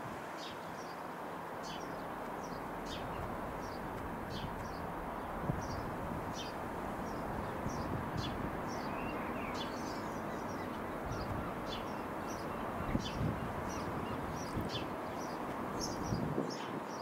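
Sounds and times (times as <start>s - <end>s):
small birds chirping: 1.6s - 17.0s.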